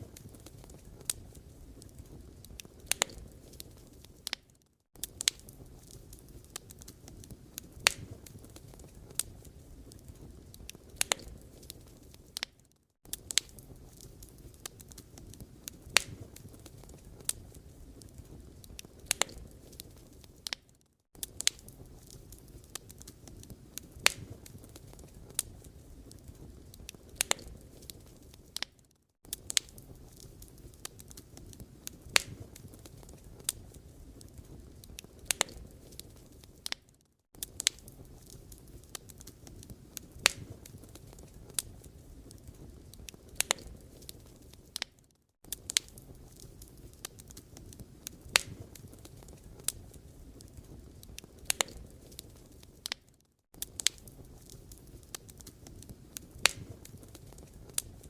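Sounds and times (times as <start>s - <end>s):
firewood crackling and popping: 0.0s - 58.0s.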